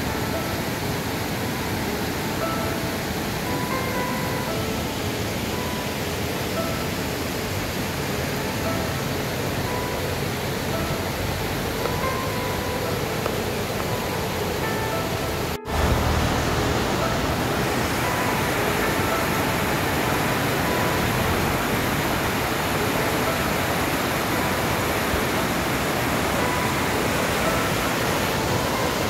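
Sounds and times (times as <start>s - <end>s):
river rushing over boulders: 0.0s - 29.0s.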